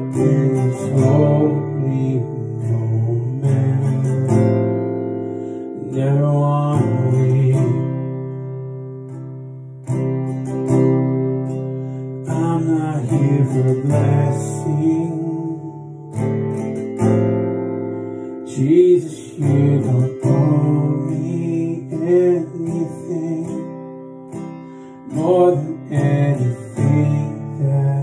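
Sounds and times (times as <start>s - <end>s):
man singing: 0.0s - 8.6s, 12.0s - 16.8s, 18.4s - 28.0s
strummed acoustic guitar: 0.0s - 28.0s.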